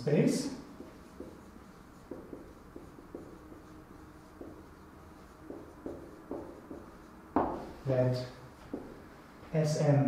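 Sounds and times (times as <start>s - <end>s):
marker writing on whiteboard: 0.5s - 9.2s.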